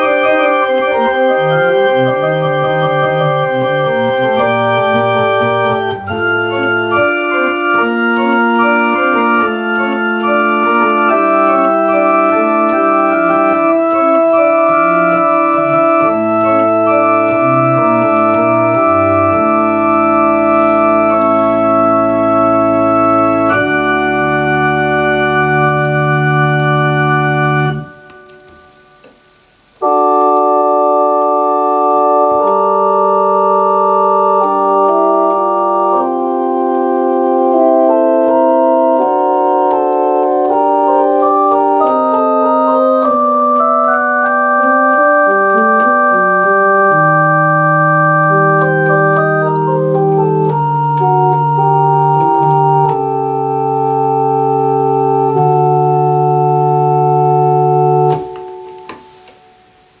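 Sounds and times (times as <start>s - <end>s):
organ playing full chords: 0.0s - 60.0s.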